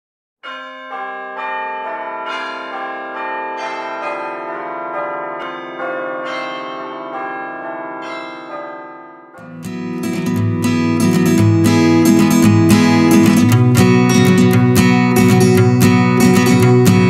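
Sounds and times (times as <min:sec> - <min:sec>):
bell-like chime notes: 0:00.4 - 0:17.0.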